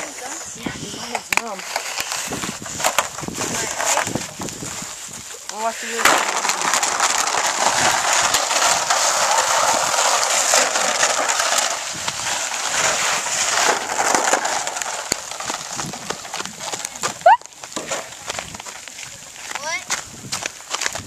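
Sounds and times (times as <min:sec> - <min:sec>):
sled scraping over ice: 0:00.0 - 0:21.0.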